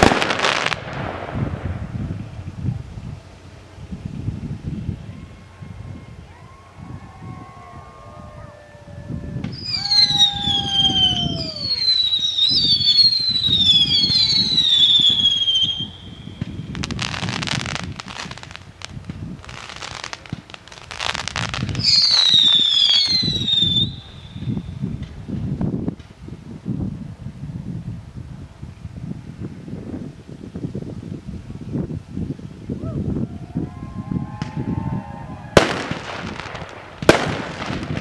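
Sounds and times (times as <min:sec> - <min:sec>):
whistling firework rockets: 0:00.0 - 0:02.8, 0:03.6 - 0:26.2, 0:32.7 - 0:38.0
hissing firework bursts: 0:00.0 - 0:07.6, 0:09.0 - 0:32.8, 0:33.4 - 0:38.0.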